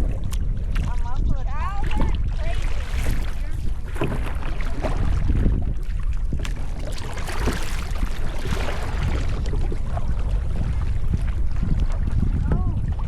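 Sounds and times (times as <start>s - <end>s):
paddle splashing water: 0.0s - 13.0s
wind rumbling on microphone: 0.0s - 13.0s.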